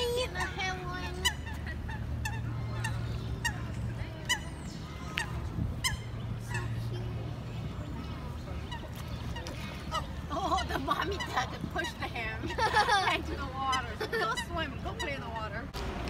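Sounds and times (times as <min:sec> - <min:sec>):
geese calling: 0:00.0 - 0:07.3, 0:08.0 - 0:15.7.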